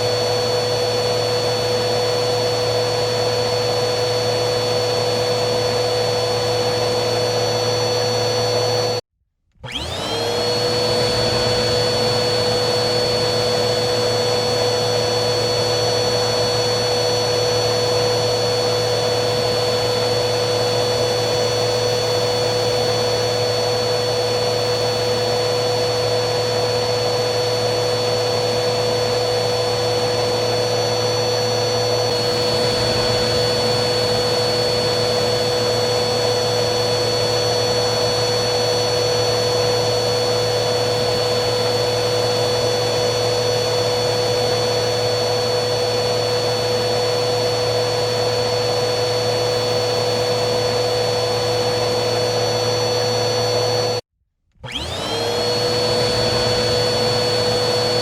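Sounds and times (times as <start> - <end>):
vacuum cleaner motor whine: 0.0 - 58.0.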